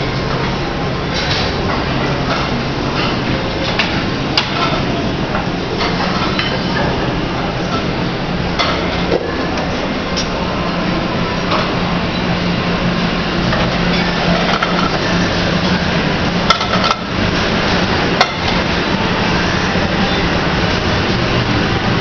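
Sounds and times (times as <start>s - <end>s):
utensils and dishes clinking: 0.0s - 12.4s, 13.3s - 22.0s
steady low hum: 0.0s - 22.0s.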